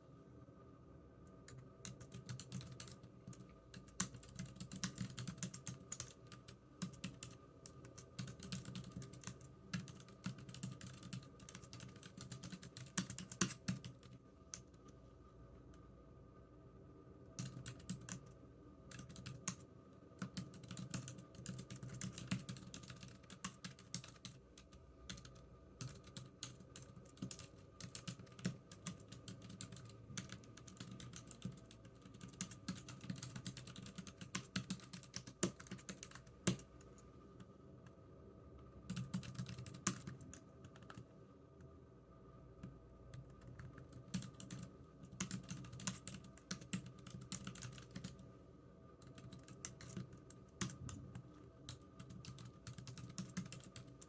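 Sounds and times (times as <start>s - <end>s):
keyboard typing: 1.4s - 14.9s, 17.4s - 19.6s, 20.2s - 37.0s, 38.9s - 41.1s, 43.1s - 48.2s, 49.0s - 54.0s.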